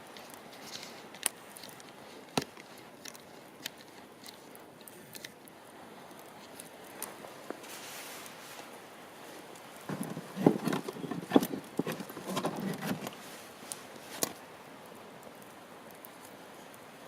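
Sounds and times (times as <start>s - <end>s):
campfire wood crackling: 0.0s - 17.0s.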